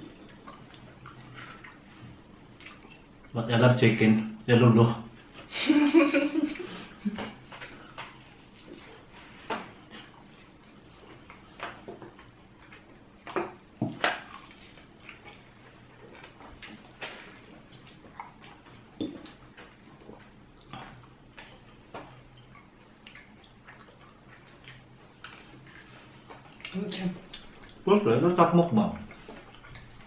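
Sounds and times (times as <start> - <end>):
people chewing food: 0.0 - 4.5, 5.1 - 30.0.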